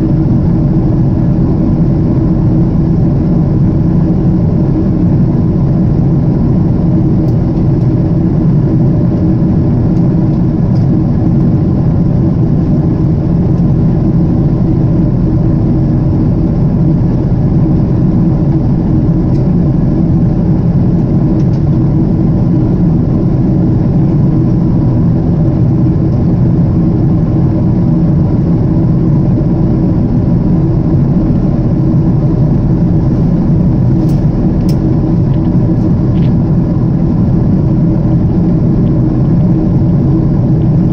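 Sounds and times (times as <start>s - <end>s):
faint steady hum: 0.0s - 40.9s
jet engines droning: 0.0s - 40.9s.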